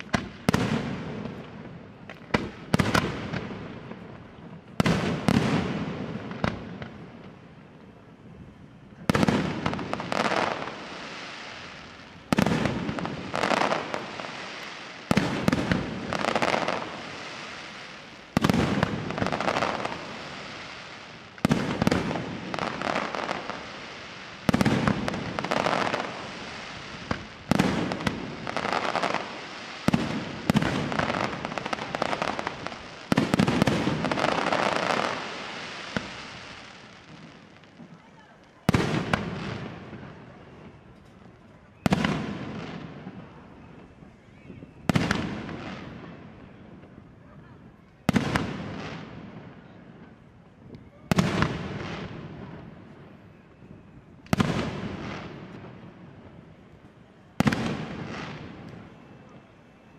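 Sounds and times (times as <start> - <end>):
firework crackling: 0.0 - 59.9.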